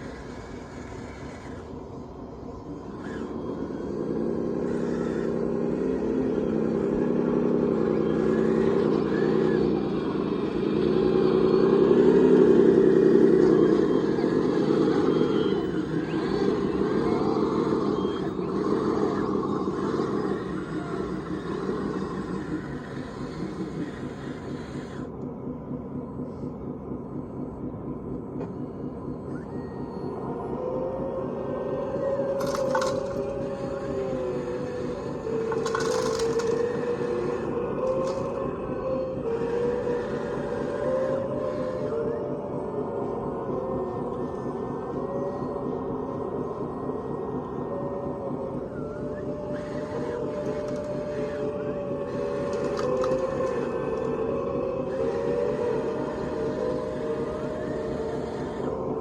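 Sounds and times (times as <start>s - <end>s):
machine low rumble: 0.0s - 59.0s
model motor whine: 0.0s - 59.0s.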